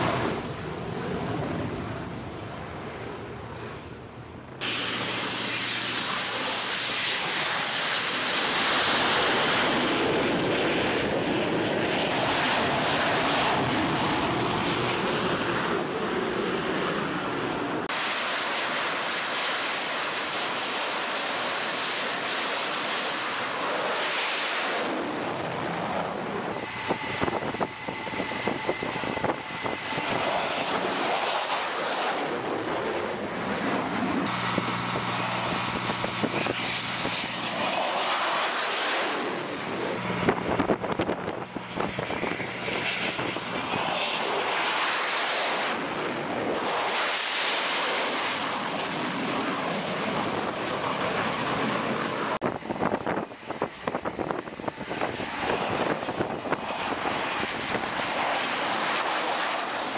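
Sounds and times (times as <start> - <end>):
jet engines roaring and whining: 0.0 - 59.9.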